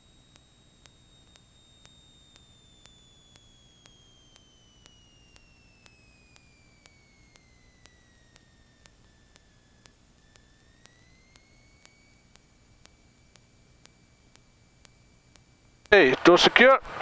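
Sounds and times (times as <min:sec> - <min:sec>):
high electrical whine gliding down: 0:00.0 - 0:17.0
light ticking: 0:00.0 - 0:17.0.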